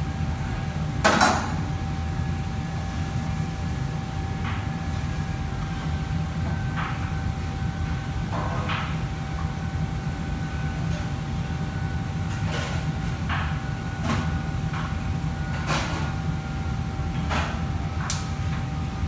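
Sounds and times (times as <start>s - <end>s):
faint steady whine: 0.0s - 19.0s.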